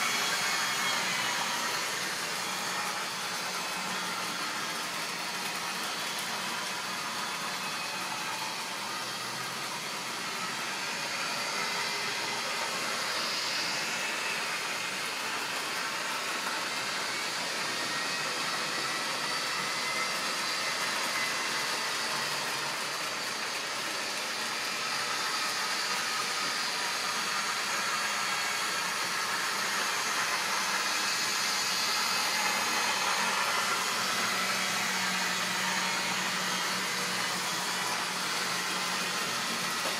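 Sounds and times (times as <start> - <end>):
model train motors whirring: 0.0 - 39.9.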